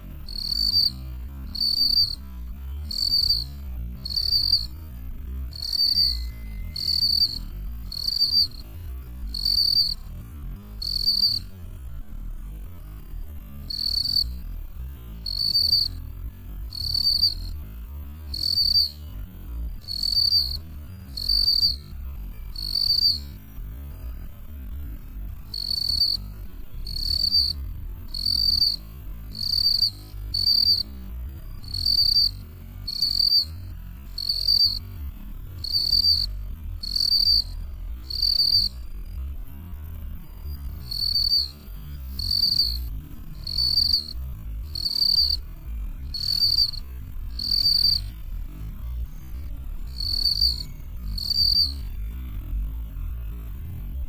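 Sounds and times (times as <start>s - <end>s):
cricket chirping: 0.2s - 11.6s, 13.5s - 14.5s, 15.2s - 24.8s, 25.5s - 53.5s.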